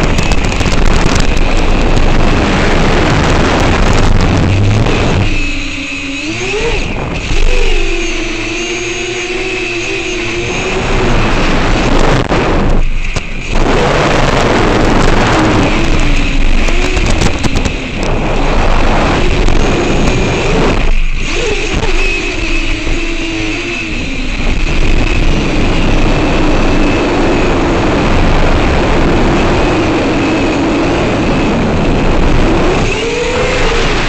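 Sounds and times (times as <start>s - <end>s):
drone motors and propellers whining: 0.0s - 34.0s
wind rush on microphone: 0.0s - 34.0s.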